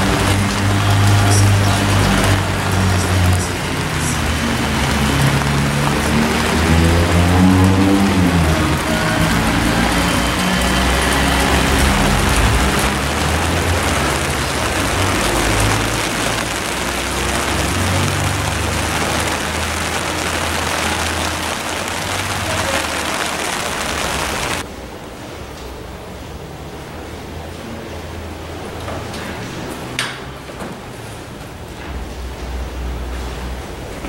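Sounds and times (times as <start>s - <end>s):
deep sustained drone: 0.0s - 28.6s
heavy rain hiss: 0.0s - 29.8s.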